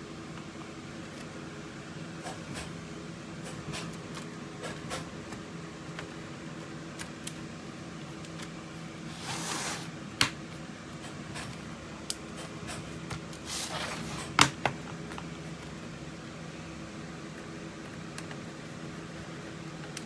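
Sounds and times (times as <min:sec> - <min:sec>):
room fan humming: 0:00.0 - 0:20.0.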